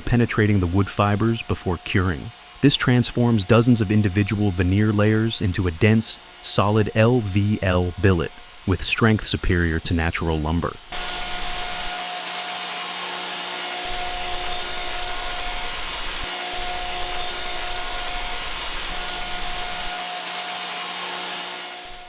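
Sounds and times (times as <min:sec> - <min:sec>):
machine whine: 0:00.0 - 0:22.0
wood-processing machinery whirring: 0:00.0 - 0:22.0.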